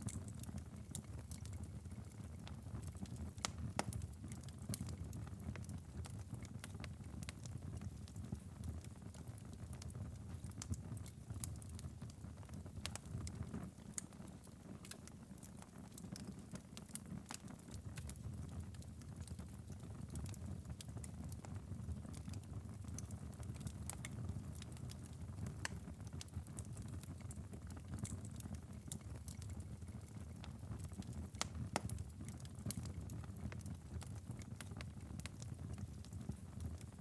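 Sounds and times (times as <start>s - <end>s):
low fire rumble: 0.0s - 37.0s
wood fire crackling: 0.0s - 37.0s.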